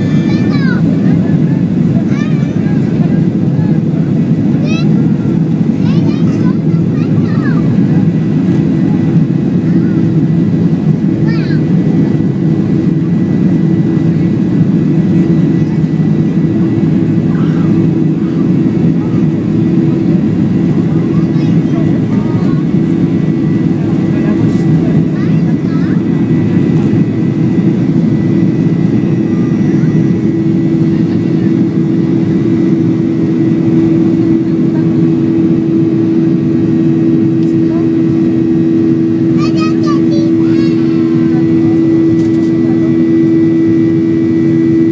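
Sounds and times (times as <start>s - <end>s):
jet engines droning: 0.0s - 44.9s.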